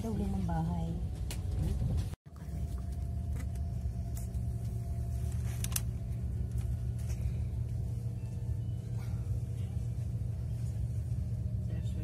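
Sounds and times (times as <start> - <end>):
train carriage rumble: 0.0 - 12.0
faint steady hum: 2.3 - 12.0.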